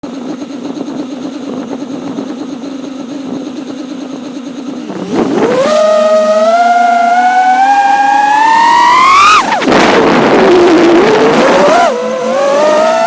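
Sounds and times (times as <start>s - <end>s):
quadcopter motors humming: 0.0s - 13.0s.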